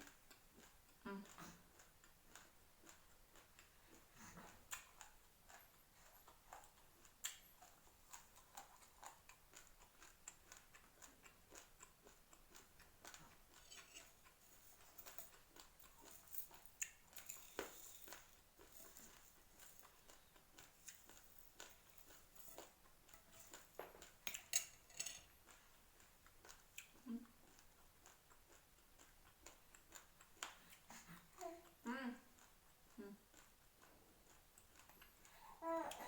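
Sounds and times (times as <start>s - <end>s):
chewing crunchy rice: 0.0s - 36.0s.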